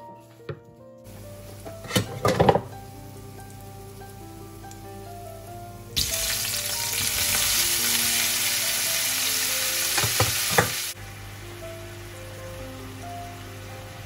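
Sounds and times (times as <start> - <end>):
mushrooms sizzling in hot oil: 1.1 - 14.0.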